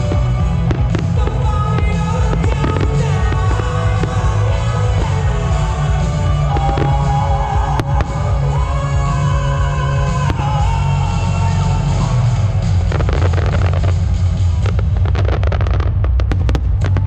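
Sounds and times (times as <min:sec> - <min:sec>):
fireworks bangs: 0:00.0 - 0:17.0
loud music with heavy bass: 0:00.0 - 0:17.0.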